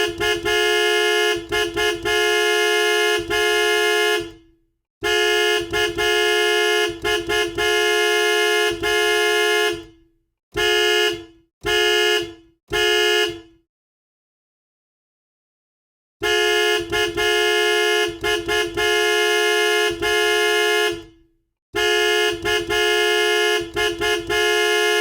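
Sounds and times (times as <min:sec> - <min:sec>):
dual-tone horn blasts: 0:00.0 - 0:13.6, 0:16.2 - 0:25.0.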